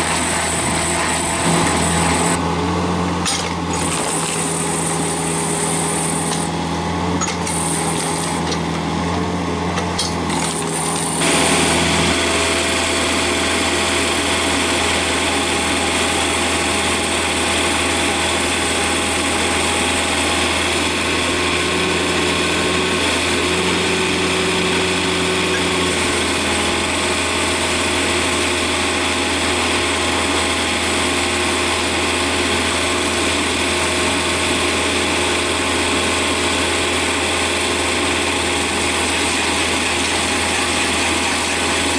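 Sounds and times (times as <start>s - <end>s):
stump grinder engine running: 0.0s - 41.9s.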